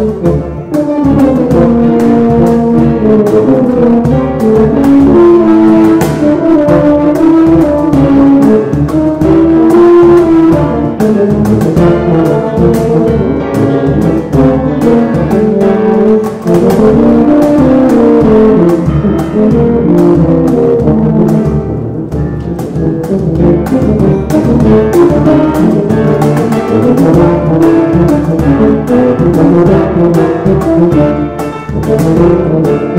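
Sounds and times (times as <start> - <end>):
cajon beat: 0.0 - 32.9
piano: 0.0 - 32.9
tubas playing: 0.0 - 32.9.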